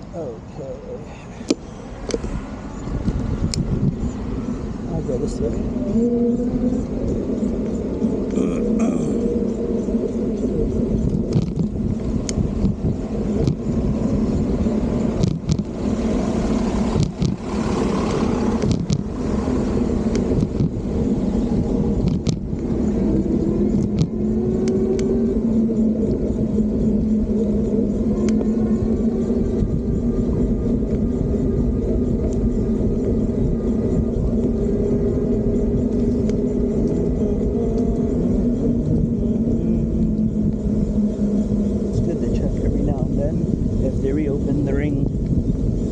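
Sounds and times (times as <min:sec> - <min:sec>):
electric bicycle rumble: 0:00.0 - 0:45.9
faint steady hum: 0:00.0 - 0:45.9
wind on microphone: 0:00.0 - 0:45.9
sharp ticks and rattles: 0:06.8 - 0:45.9.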